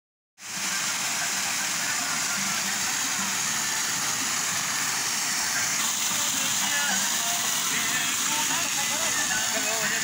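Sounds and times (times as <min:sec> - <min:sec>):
stream cascading over rocks: 0:00.4 - 0:10.0.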